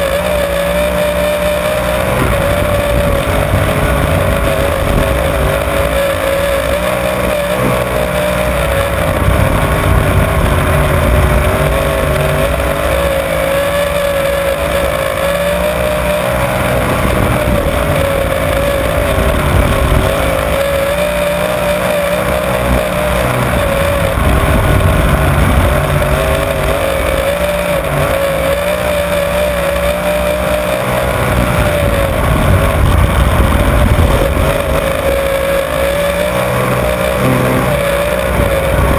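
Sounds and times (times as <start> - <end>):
racing car engine: 0.0 - 38.9
rushing noise: 0.0 - 38.9.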